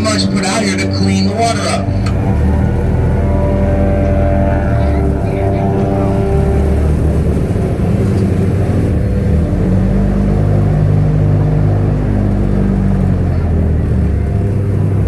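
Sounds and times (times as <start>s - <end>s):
airboat engine and propeller: 0.0s - 15.0s.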